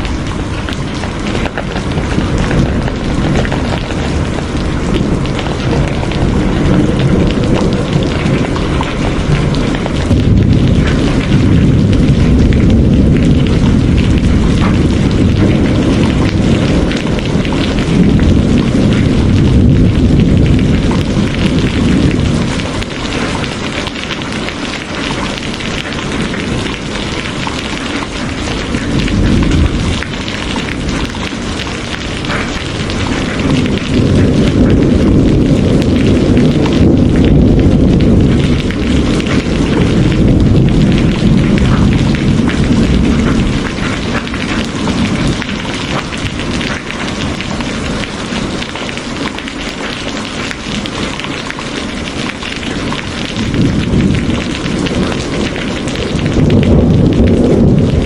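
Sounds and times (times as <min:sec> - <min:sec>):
heavy rain: 0:00.0 - 0:58.0
thunder rumbling: 0:00.0 - 0:58.0.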